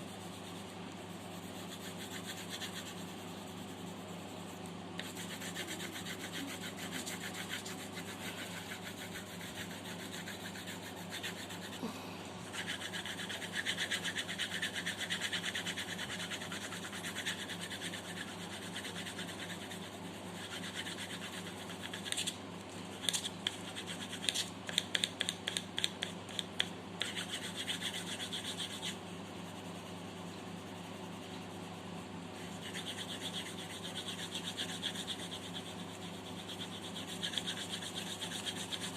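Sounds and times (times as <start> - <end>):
pencil scratching on paper: 0.0 - 11.8, 12.4 - 31.8, 32.4 - 38.9
steady low hum: 0.0 - 38.9.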